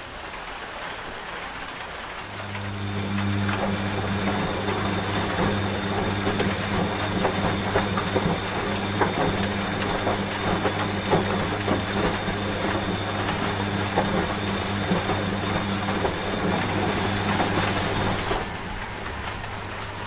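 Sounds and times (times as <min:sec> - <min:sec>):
rain pattering: 0:00.0 - 0:20.0
washing machine humming: 0:01.9 - 0:20.0.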